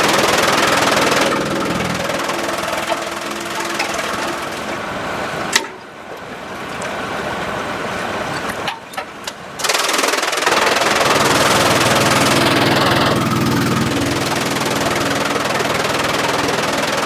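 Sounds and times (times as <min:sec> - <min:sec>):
sawmill machinery running: 0:00.0 - 0:06.0, 0:07.0 - 0:17.0.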